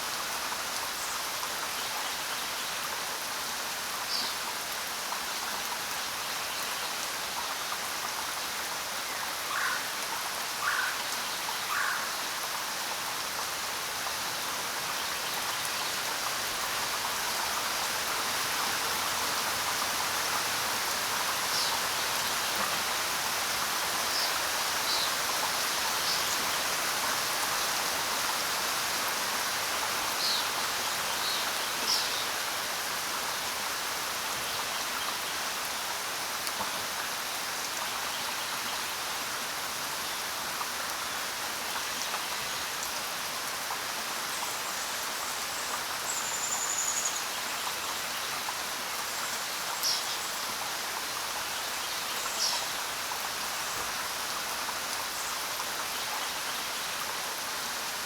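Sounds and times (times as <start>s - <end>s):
rain falling on ground: 0.0s - 58.0s.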